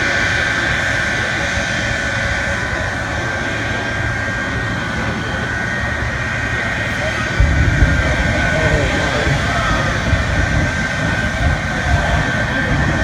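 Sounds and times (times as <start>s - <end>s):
jet engine rushing noise: 0.0s - 13.0s
jet engine whine: 0.0s - 13.0s.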